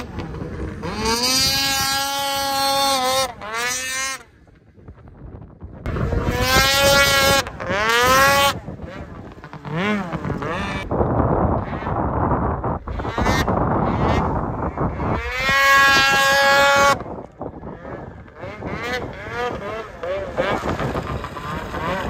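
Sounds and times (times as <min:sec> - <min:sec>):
snowmobile engine revving: 0:00.0 - 0:04.6, 0:05.8 - 0:22.0.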